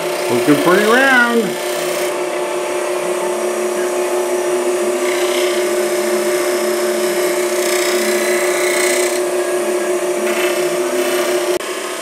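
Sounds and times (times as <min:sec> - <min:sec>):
turning tool cutting wood: 0:00.0 - 0:02.2, 0:03.0 - 0:11.6
wood lathe motor whine: 0:00.0 - 0:12.0.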